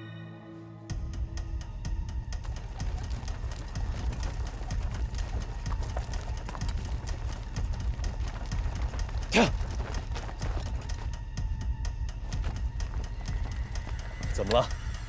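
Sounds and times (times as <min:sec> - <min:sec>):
horse hooves clip-clopping on dirt: 0:01.6 - 0:15.0
footsteps: 0:01.9 - 0:15.0.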